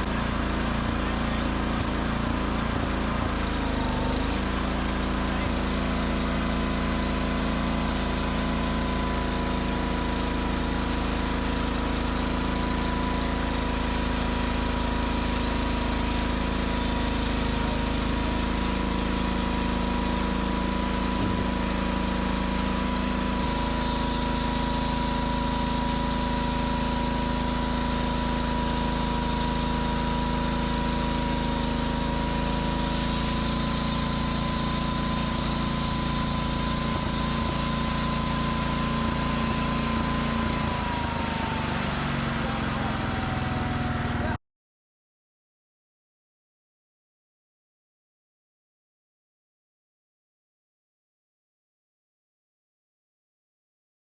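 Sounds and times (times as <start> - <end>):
small gasoline engine running: 0.0 - 44.4.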